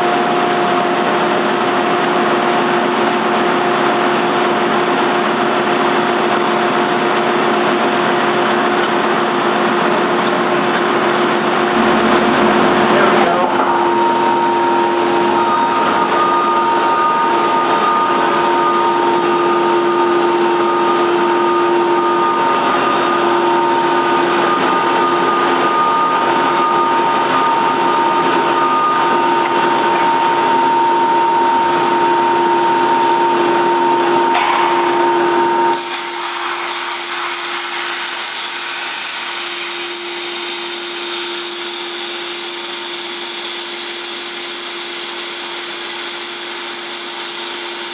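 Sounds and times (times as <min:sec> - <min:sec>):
lathe whining: 0:00.0 - 0:47.9.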